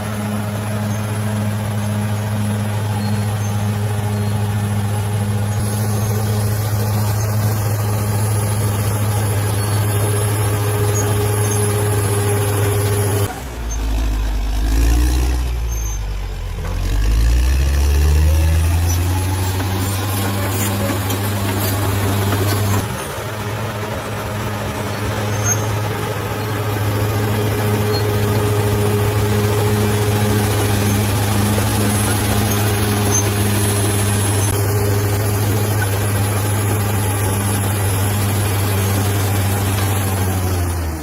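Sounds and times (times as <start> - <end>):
bulldozer diesel engine droning: 0.0 - 41.0.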